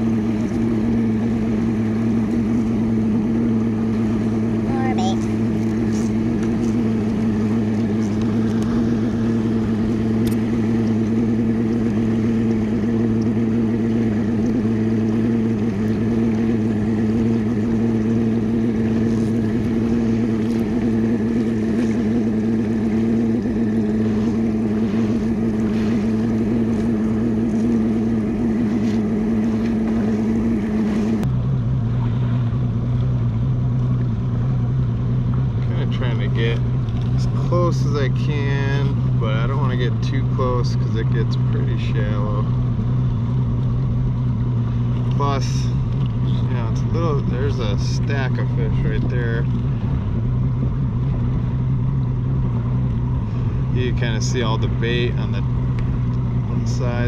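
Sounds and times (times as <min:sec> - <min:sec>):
outboard motor humming: 0:00.0 - 0:57.0.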